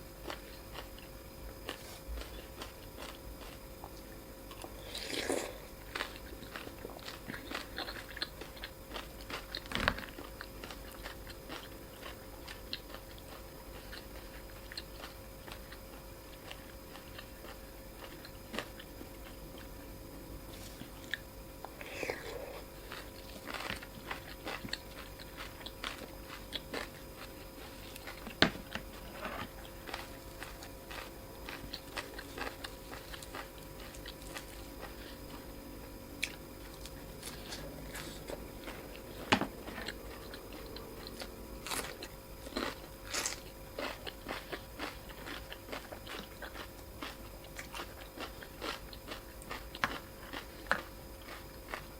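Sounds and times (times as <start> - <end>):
chewing and biting noodles: 0.2 - 19.8, 21.9 - 35.6, 36.2 - 51.9.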